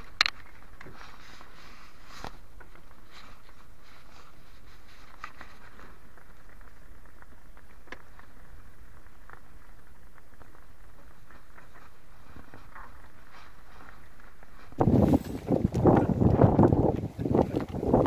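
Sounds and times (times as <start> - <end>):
microphone handling clicks and rustles: 0.0 - 18.0.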